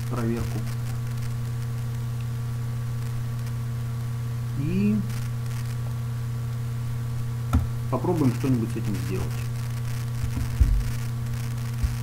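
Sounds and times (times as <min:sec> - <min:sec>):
electrical hum: 0:00.0 - 0:12.0
microphone hiss: 0:00.0 - 0:12.0.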